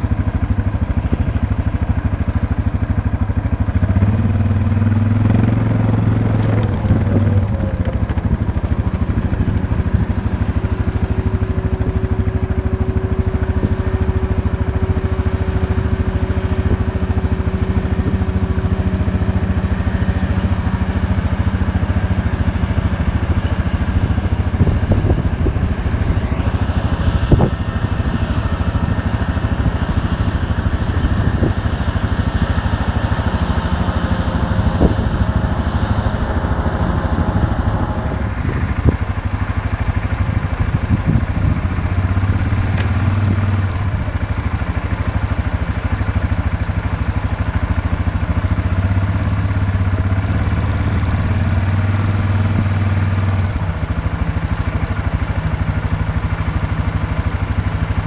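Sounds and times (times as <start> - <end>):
harvester diesel drone: 0.0 - 58.0.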